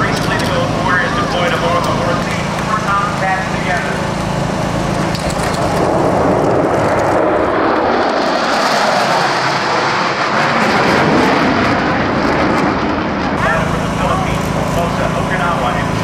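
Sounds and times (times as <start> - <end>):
jet aircraft flying past: 0.0 - 16.0.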